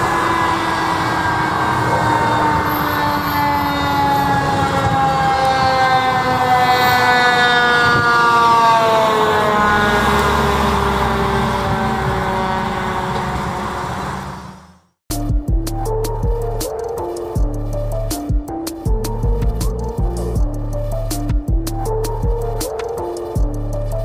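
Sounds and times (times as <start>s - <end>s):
fire engine siren: 0.0s - 15.0s, 15.8s - 24.0s
truck engine and tyre rumble: 0.0s - 24.0s.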